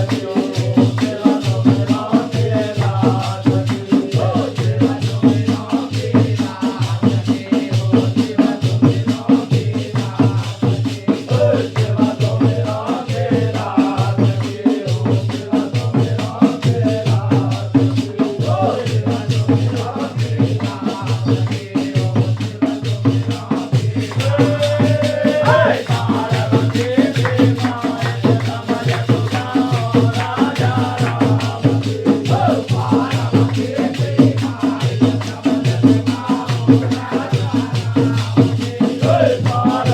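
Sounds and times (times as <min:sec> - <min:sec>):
fast dense percussion: 0:00.0 - 0:39.9
voices singing a melody: 0:00.0 - 0:39.9.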